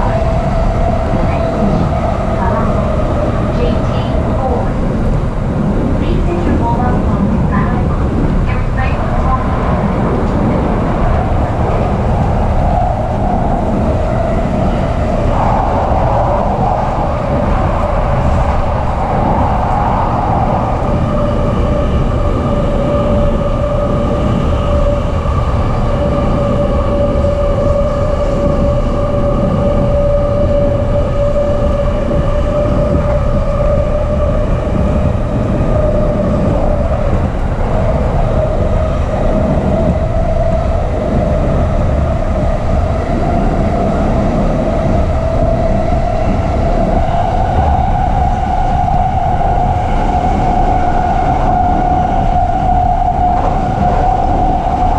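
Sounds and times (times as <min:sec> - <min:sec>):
train wheels rumbling: 0:00.0 - 0:54.9.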